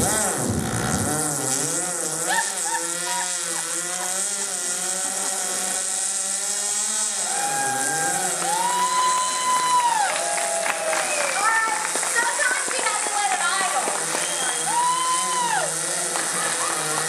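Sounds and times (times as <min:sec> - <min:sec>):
woman imitating a chainsaw: 0:00.0 - 0:17.0.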